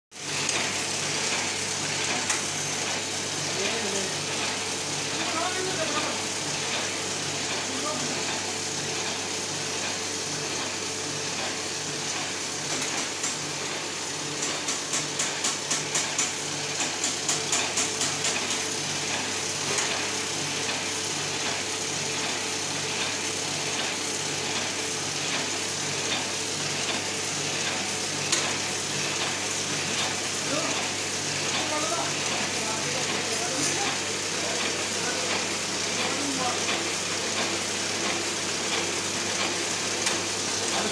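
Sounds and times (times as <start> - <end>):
printing press whirring: 0.1 - 40.9.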